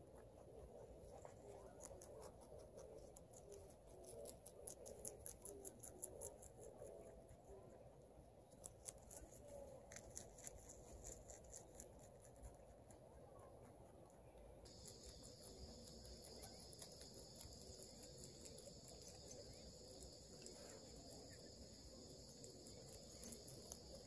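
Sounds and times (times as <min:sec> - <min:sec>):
rabbit chewing crunching: 0:00.0 - 0:24.0.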